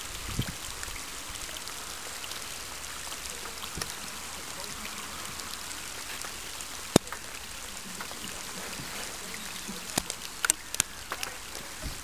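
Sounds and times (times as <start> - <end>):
rain falling on water: 0.0 - 12.0.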